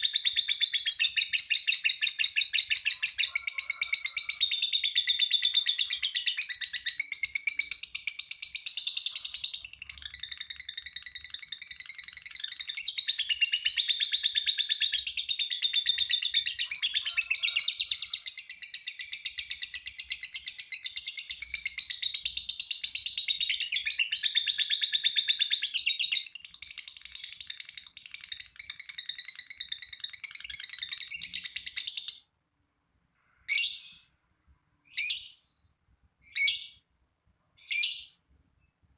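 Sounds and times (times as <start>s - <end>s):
lovebird chattering: 0.0s - 32.2s.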